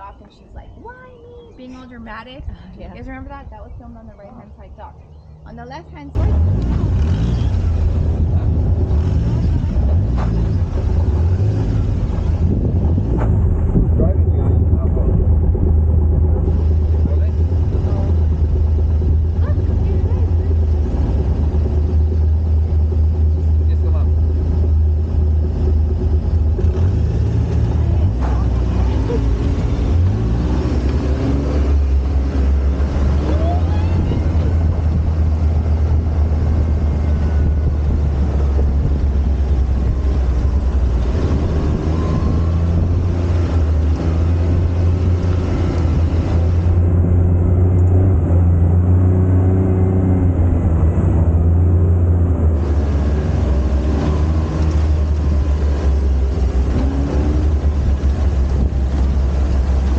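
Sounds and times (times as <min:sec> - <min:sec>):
utility vehicle engine droning: 0:00.0 - 0:59.9.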